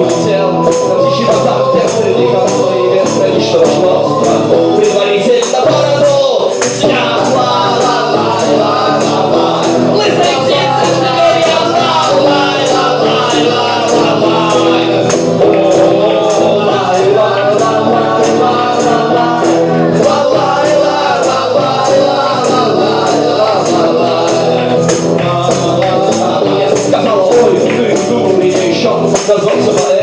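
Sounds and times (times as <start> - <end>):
acoustic band music: 0.0 - 30.0
jingling percussion beat: 0.0 - 30.0
voices singing: 0.0 - 30.0.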